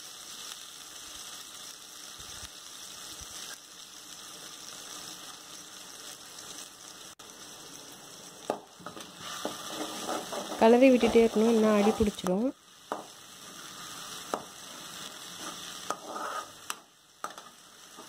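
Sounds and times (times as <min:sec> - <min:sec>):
garlic paste sizzling in oil: 0:00.0 - 0:18.0.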